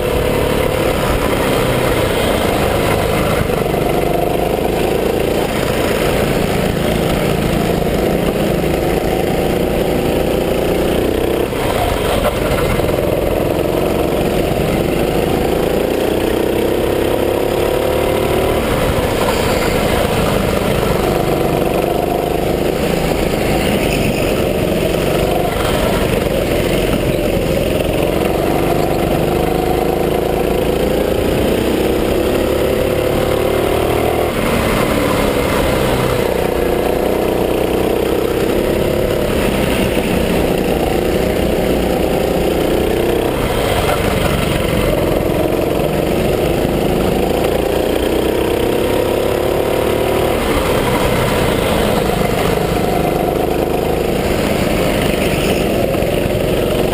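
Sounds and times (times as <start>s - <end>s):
go-kart engine revving: 0.0s - 56.9s.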